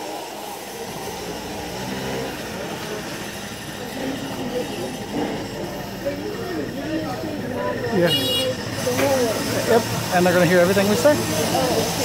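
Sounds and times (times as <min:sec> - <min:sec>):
crowd hubbub: 0:00.0 - 0:12.0
indistinct chatter of passers-by: 0:00.0 - 0:12.0
nearer voices: 0:02.1 - 0:12.0.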